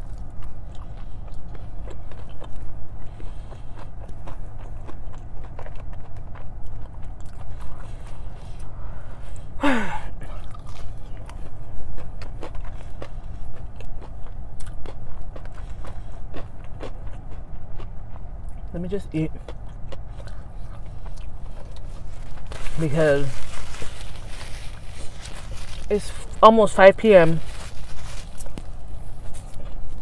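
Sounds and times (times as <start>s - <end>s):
chewing and biting food: 0.0s - 30.0s
steady low hum: 0.0s - 30.0s.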